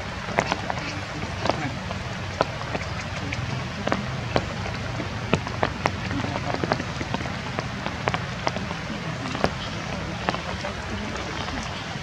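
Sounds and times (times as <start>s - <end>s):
rain falling: 0.0s - 12.0s
sharp raindrops landing: 0.0s - 12.0s.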